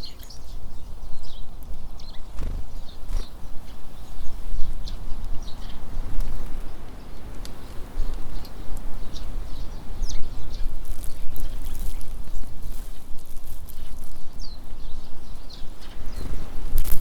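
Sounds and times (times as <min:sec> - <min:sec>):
small birds chirping: 0:00.0 - 0:17.0
wind buffeting microphone: 0:00.0 - 0:17.0.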